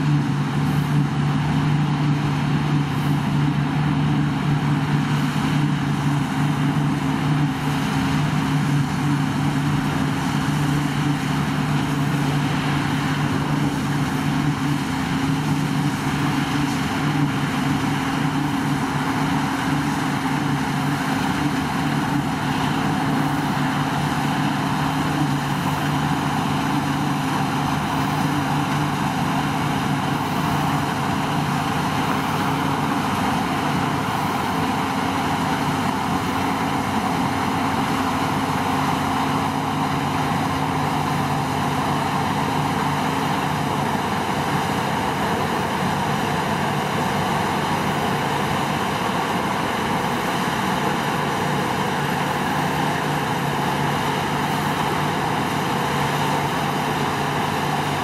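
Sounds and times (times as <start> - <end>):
broad rushing noise: 0.0 - 58.0
combine harvester engine drone: 0.0 - 58.0.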